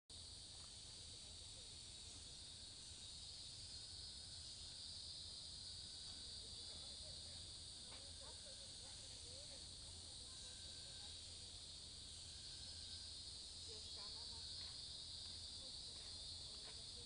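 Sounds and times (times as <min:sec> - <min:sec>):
high-pitched insect chorus: 0:00.1 - 0:17.0.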